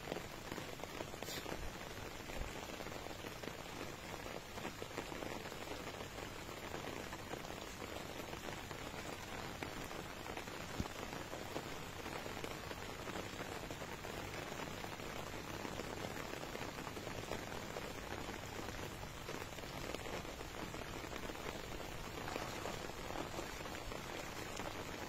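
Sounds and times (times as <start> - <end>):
rain on water and grass: 0.0 - 25.0.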